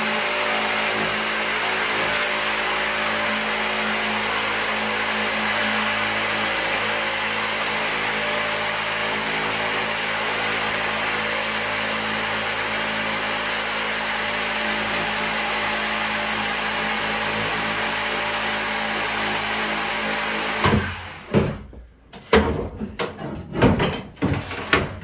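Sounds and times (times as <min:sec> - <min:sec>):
saw blade cutting: 0:00.0 - 0:21.1
power saw motor running: 0:00.0 - 0:21.3.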